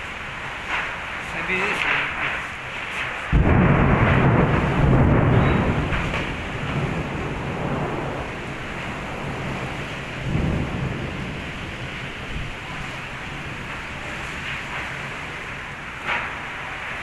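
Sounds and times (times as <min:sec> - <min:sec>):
heavy rain falling: 0:00.0 - 0:17.0
rolling thunder: 0:00.0 - 0:17.0.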